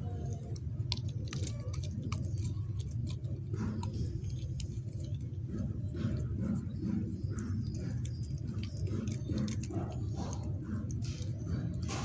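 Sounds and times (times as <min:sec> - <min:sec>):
dog crunching bone: 0:00.0 - 0:12.0.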